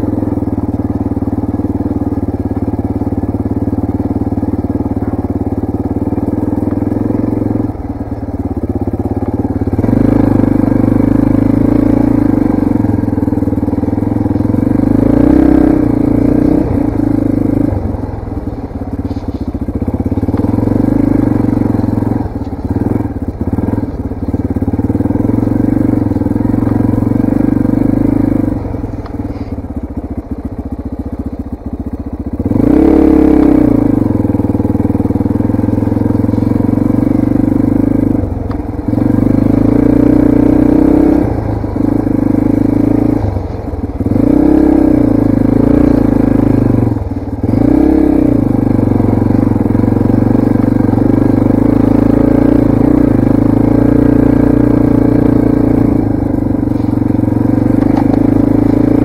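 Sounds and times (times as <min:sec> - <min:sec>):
dirt bike engine revving: 0:00.0 - 0:29.6, 0:32.3 - 0:59.0.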